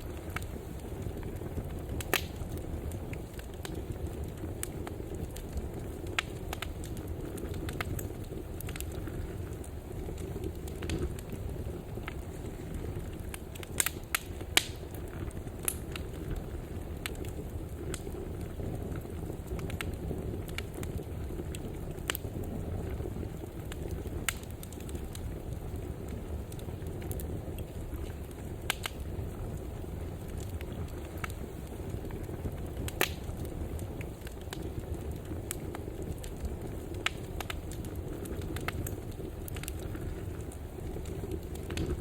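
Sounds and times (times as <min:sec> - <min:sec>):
fire crackling in a fireplace: 0:00.0 - 0:42.0.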